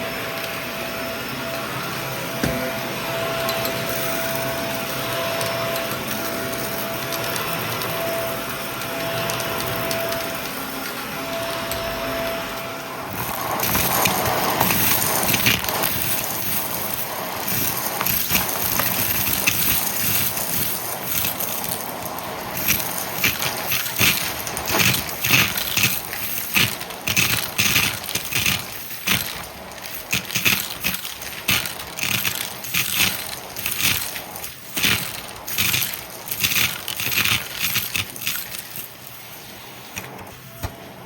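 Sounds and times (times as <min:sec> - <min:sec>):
vacuum cleaner running: 0:00.0 - 0:41.0
debris rattling through vacuum: 0:01.7 - 0:40.5.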